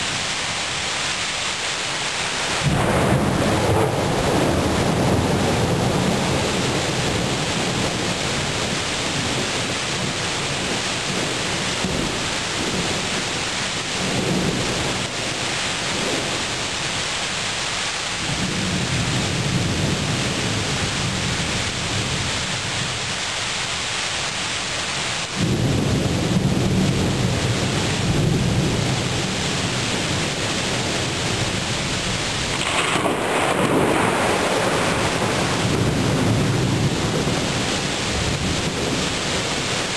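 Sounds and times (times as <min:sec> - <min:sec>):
heavy rain: 0:00.0 - 0:39.9
thunder rumbling: 0:02.5 - 0:17.1, 0:18.2 - 0:23.1, 0:25.3 - 0:39.9.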